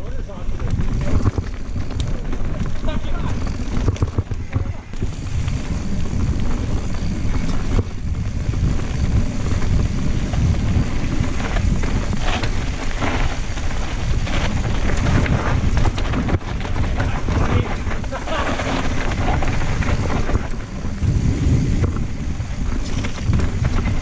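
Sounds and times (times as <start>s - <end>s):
bike clicks and rattles: 0.0s - 24.0s
bike tyres crunching over dirt: 0.0s - 24.0s
wind rumble on microphone: 0.0s - 24.0s.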